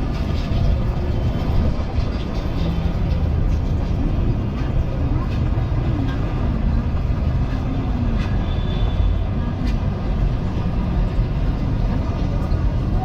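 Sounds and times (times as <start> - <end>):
city street rumble: 0.0 - 13.0
faint voices: 0.0 - 13.0.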